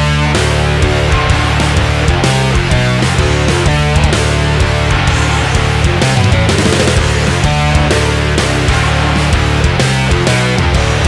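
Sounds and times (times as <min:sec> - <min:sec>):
loud rock music: 0:00.0 - 0:11.0.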